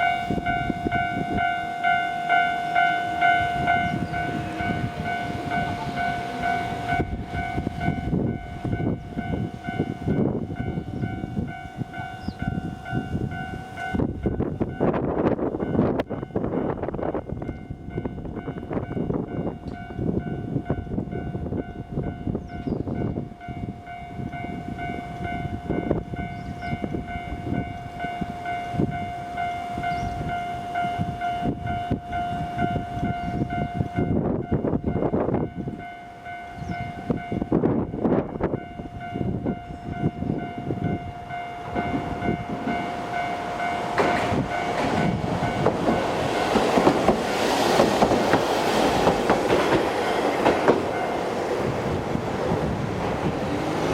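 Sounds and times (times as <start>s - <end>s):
low road rumble: 0.0s - 53.9s
railroad crossing bell ringing: 0.0s - 53.9s
tram running: 0.0s - 53.9s.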